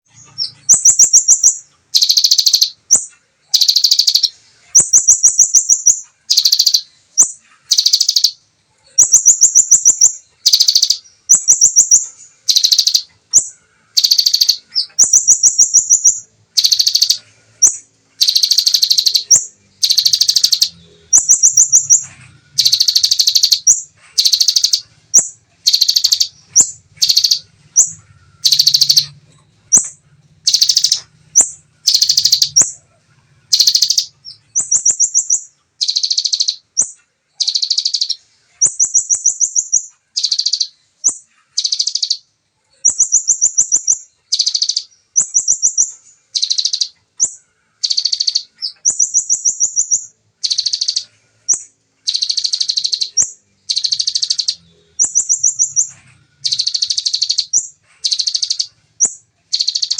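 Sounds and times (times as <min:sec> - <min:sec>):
bird singing rapid ticking phrases: 0:00.0 - 0:59.9.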